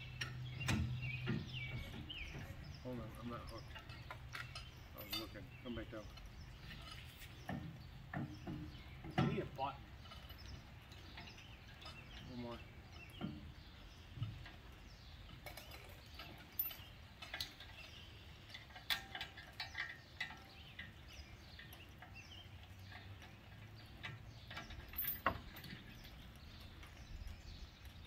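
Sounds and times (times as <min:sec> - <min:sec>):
metal chain clinking and knocking: 0:00.1 - 0:12.4, 0:15.3 - 0:28.0.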